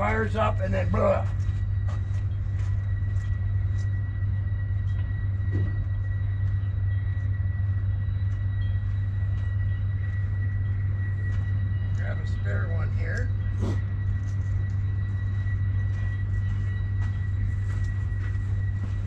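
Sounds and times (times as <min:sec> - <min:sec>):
faint high whine: 0:00.0 - 0:19.0
low mechanical rumble: 0:00.0 - 0:19.0.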